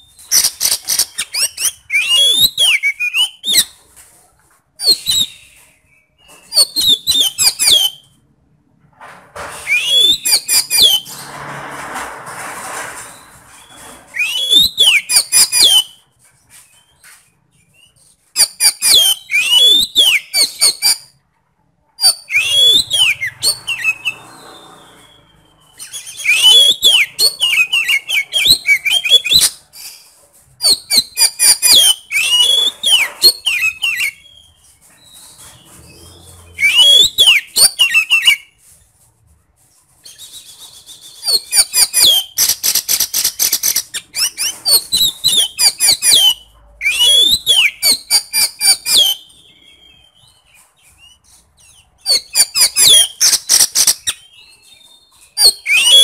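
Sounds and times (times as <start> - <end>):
bird singing whistles and scratchy notes: 0.0 - 3.9, 4.8 - 8.2, 9.6 - 11.5, 13.0 - 21.2, 22.0 - 38.9, 39.8 - 56.0.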